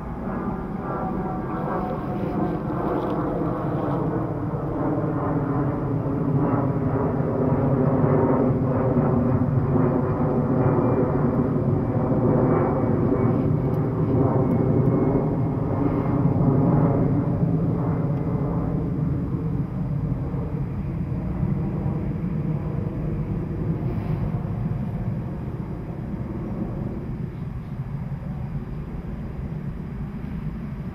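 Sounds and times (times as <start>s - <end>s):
airliner rumble overhead: 0.0s - 30.9s.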